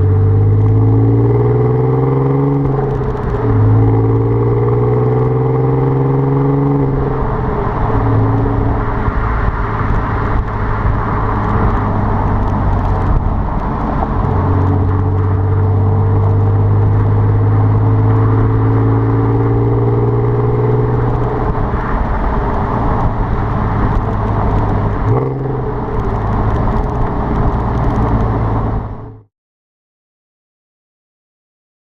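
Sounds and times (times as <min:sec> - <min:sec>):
loud car engine running: 0:00.0 - 0:29.2.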